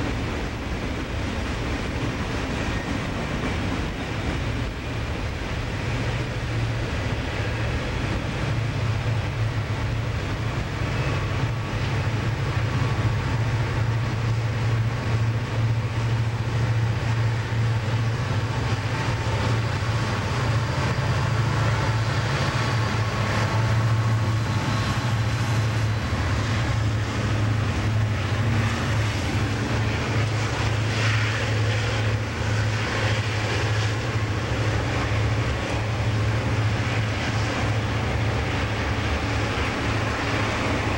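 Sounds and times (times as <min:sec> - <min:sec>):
diesel locomotive engines droning: 0:00.0 - 0:40.9.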